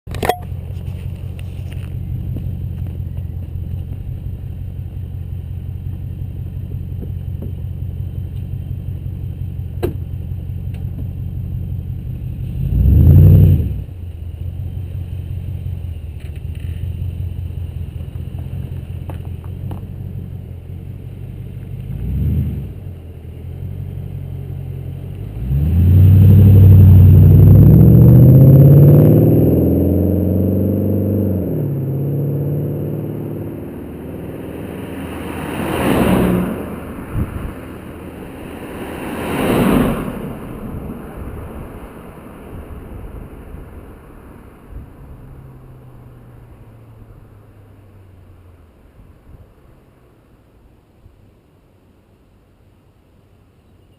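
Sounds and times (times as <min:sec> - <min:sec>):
car engine idling and revving: 0:00.1 - 0:51.4.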